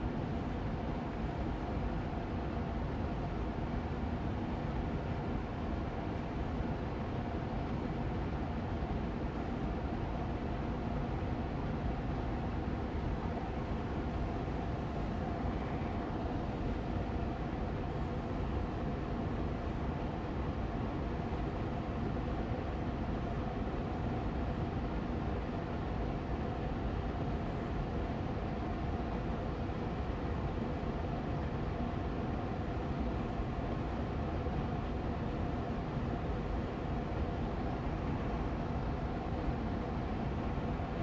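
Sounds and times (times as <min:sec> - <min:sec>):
air purifier fan hum: 0:00.0 - 0:41.0.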